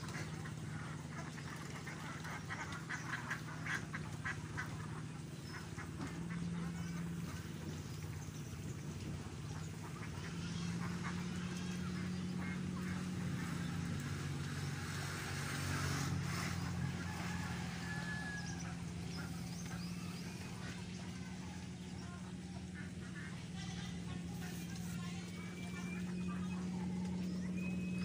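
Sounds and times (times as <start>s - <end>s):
ducks quacking: 0.0s - 28.0s
steady low hum: 0.0s - 28.0s.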